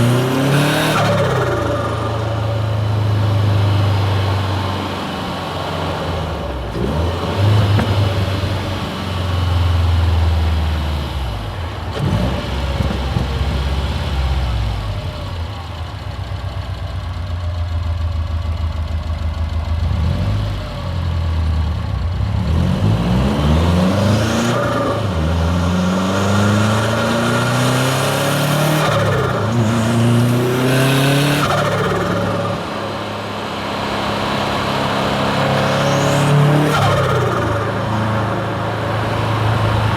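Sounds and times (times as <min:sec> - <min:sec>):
car engine accelerating: 0:00.0 - 0:17.2, 0:19.3 - 0:39.9.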